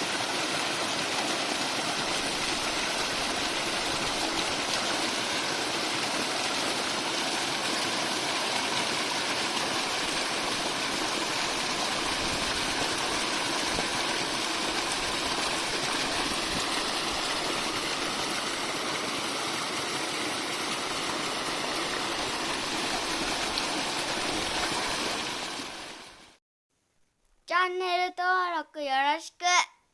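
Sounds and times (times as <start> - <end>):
spring water running: 0.0 - 26.4.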